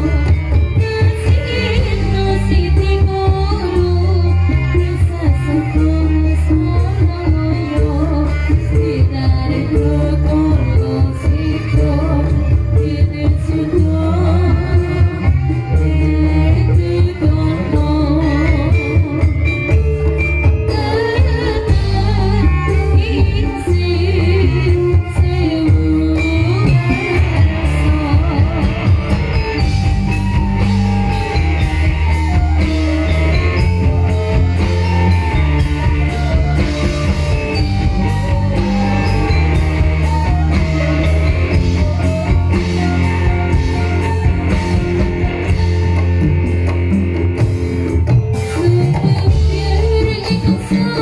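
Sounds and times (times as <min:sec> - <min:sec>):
drum kit: 0:00.0 - 0:51.0
gamelan metallophones: 0:00.0 - 0:51.0
steady bass: 0:00.0 - 0:51.0
violin: 0:00.0 - 0:51.0.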